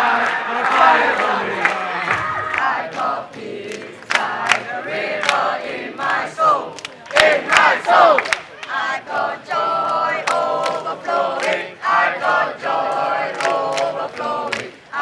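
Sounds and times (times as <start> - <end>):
crowd chanting a song: 0.0 - 15.0.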